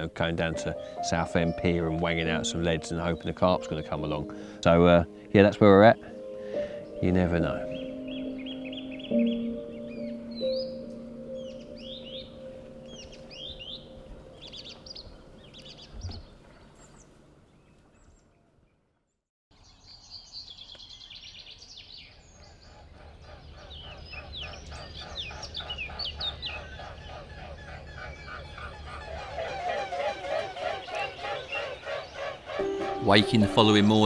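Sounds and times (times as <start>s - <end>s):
small birds chirping: 5.4s - 18.8s, 19.5s - 29.7s, 30.4s - 34.0s.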